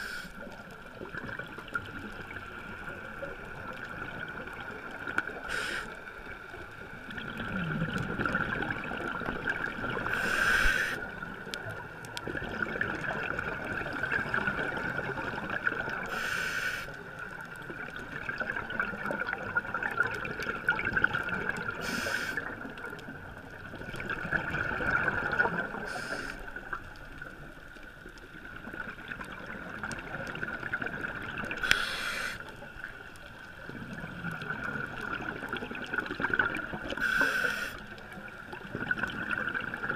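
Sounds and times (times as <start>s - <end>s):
bubbling and gurgling underwater: 0.0s - 39.9s.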